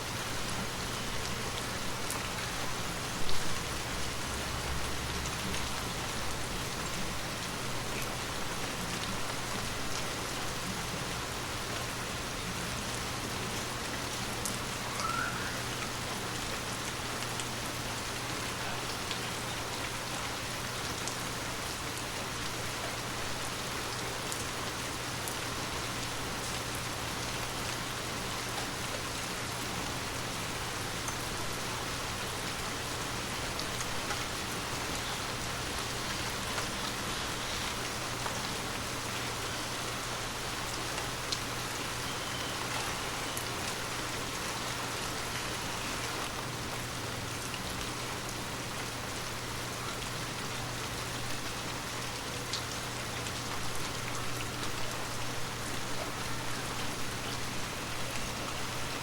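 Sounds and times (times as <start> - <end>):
heavy rain hissing: 0.0 - 59.0
rain drops ticking: 0.0 - 59.0.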